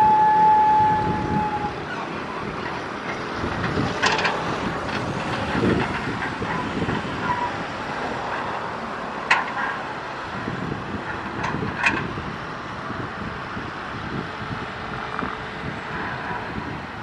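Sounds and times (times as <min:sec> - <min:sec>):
excavator diesel engine rumbling: 0:00.0 - 0:17.0.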